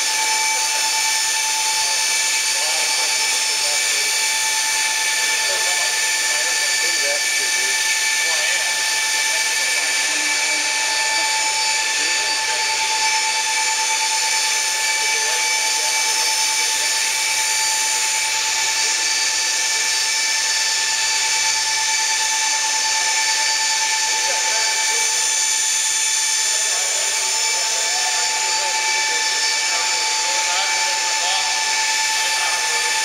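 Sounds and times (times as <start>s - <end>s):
high-pitched machine whine: 0.0s - 33.0s.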